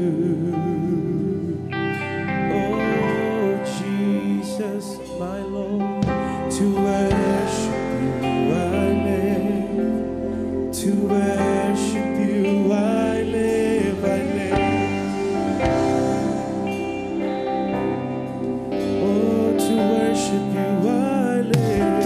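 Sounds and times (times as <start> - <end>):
live worship band music: 0.0 - 22.0.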